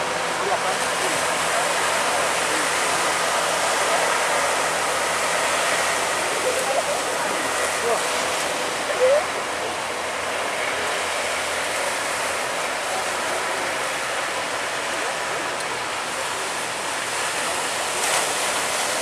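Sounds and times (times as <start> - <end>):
seawater rushing around a boat: 0.0 - 19.0.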